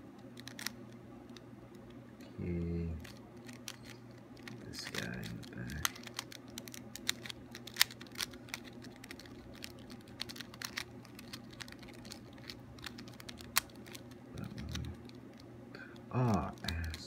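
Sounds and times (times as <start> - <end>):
steady low hum: 0.0 - 17.0
puzzle cube plastic clicks: 0.2 - 2.0, 2.6 - 15.5, 16.2 - 17.0.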